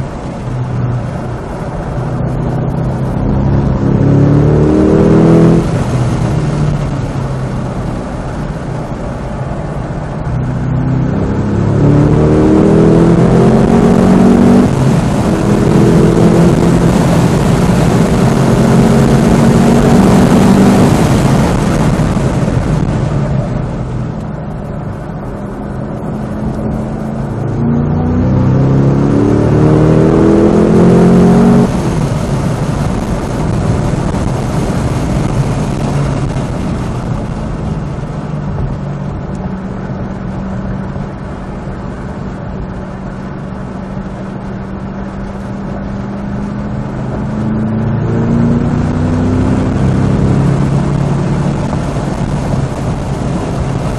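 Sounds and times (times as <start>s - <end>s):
car engine revving at speed: 0.0s - 53.9s
road and wind noise: 0.0s - 53.9s.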